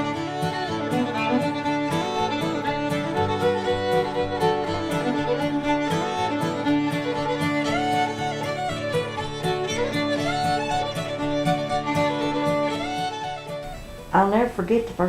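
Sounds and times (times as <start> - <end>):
old-time fiddle music: 0.0 - 14.6.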